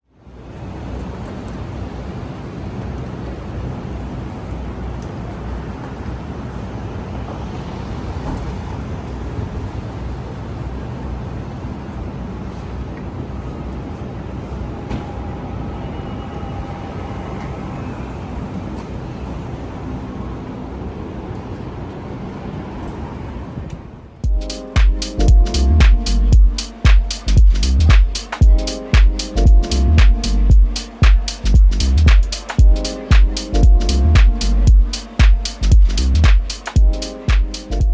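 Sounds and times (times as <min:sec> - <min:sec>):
low rumble of vehicle noise: 0:00.0 - 0:24.2, 0:25.1 - 0:37.9.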